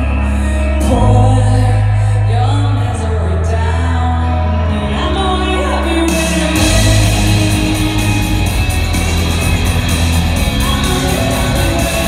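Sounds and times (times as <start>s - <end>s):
woman singing: 0.0s - 8.6s, 10.3s - 12.0s
live rock band: 0.0s - 12.0s.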